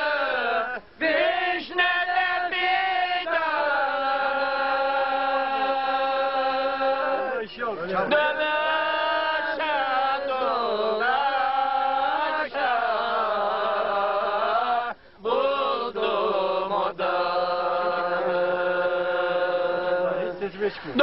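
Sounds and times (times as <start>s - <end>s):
man singing unaccompanied: 0.0s - 21.0s.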